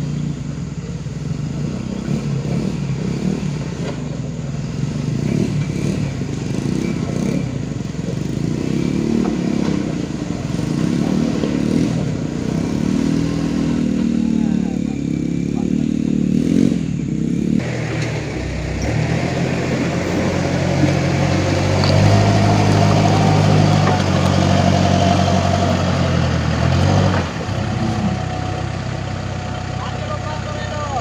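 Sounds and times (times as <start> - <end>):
backhoe diesel engine under load: 0.0 - 31.0
truck diesel engine revving: 0.0 - 31.0.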